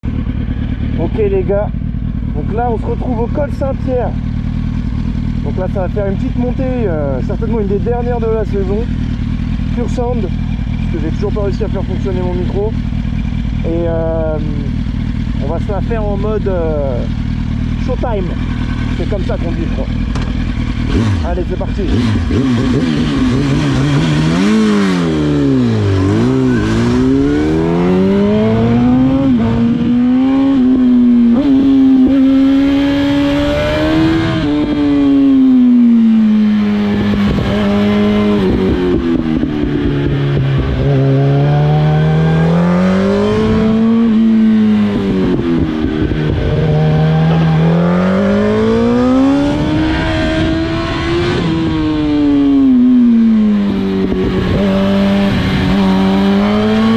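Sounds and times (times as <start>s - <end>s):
motorcycle engine accelerating hard: 0.0s - 56.9s.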